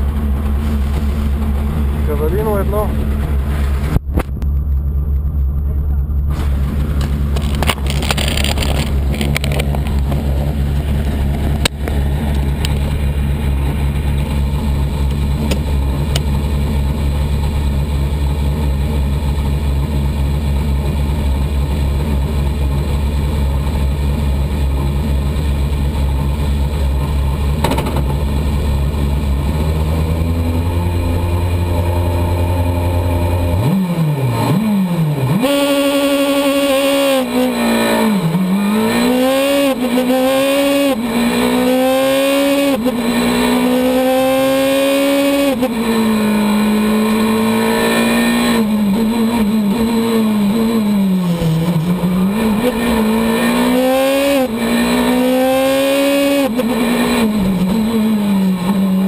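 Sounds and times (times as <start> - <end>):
rally car engine idling and revving: 0.0 - 59.0.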